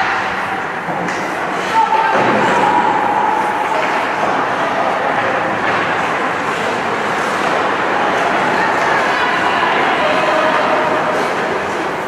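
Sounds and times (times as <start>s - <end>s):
skates on ice: 1.0s - 12.0s.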